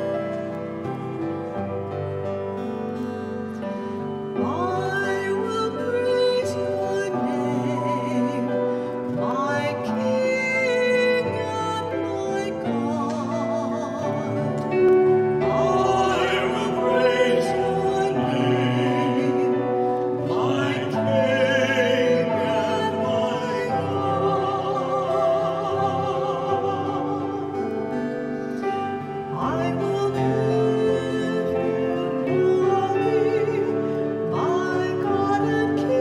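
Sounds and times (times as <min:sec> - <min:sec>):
sustained instrumental accompaniment: 0:00.0 - 0:36.0
person singing with vibrato: 0:02.5 - 0:36.0.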